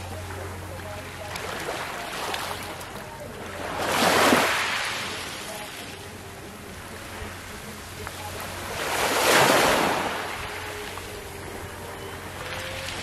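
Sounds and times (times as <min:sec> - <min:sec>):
small waves lapping on pebbles: 0:00.0 - 0:06.1, 0:06.8 - 0:11.5.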